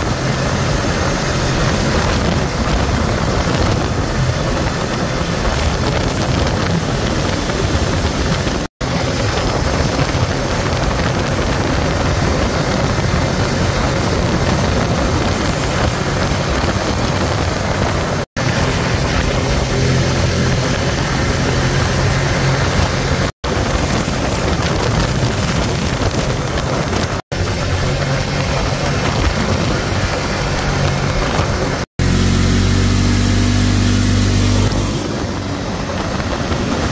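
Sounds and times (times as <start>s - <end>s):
atv engine running: 0.0s - 36.9s
tyre and wind noise: 0.0s - 36.9s.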